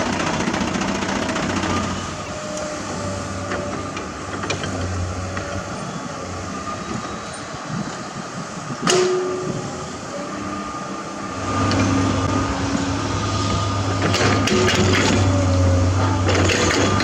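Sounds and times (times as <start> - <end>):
diesel construction machinery running: 0.0 - 17.0.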